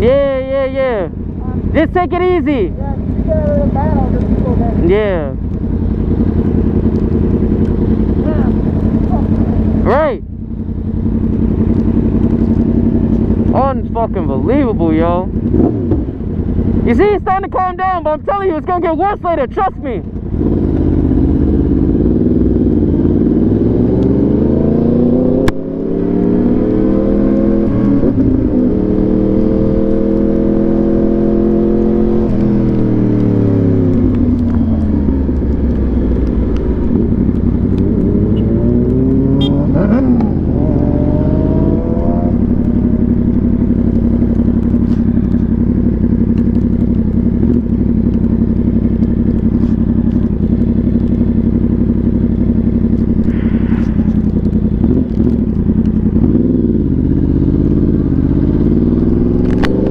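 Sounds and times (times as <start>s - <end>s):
motorcycle accelerating: 0.0s - 59.9s.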